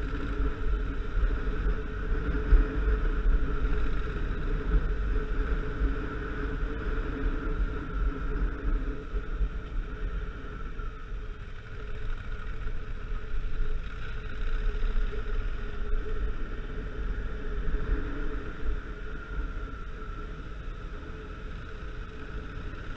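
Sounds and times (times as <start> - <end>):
wind rumble on microphone: 0.0 - 22.9.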